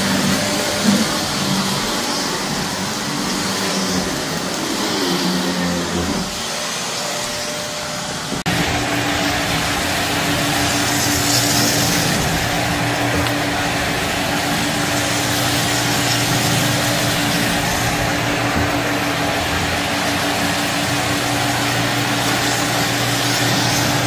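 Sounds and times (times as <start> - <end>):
vacuum cleaner running on carpet: 0.0 - 24.0.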